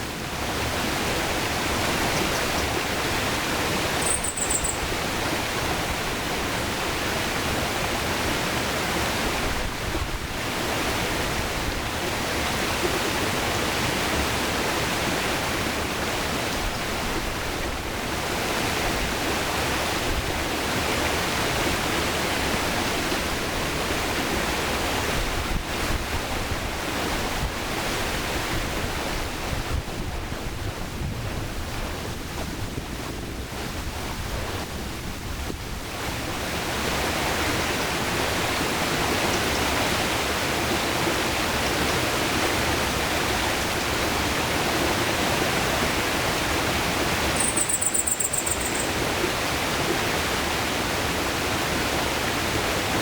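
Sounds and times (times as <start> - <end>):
river water rushing over rocks: 0.0 - 29.8, 36.0 - 53.0.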